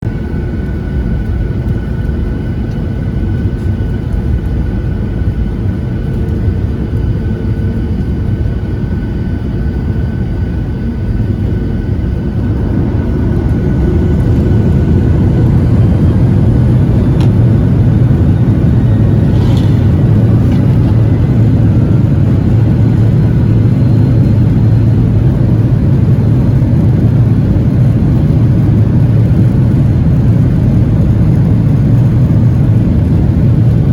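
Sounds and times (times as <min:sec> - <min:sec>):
jet engine cabin rumble: 0:00.0 - 0:33.9.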